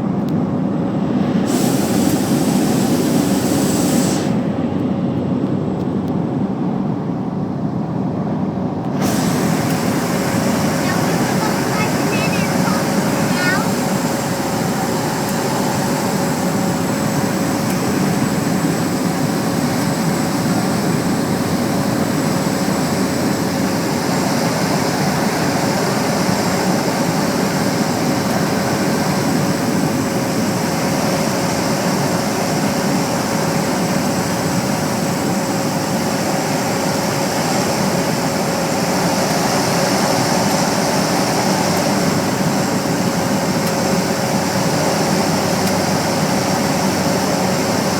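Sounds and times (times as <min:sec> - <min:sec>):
propeller and engine drone: 0:00.0 - 0:47.9
turbine whine: 0:00.0 - 0:47.9.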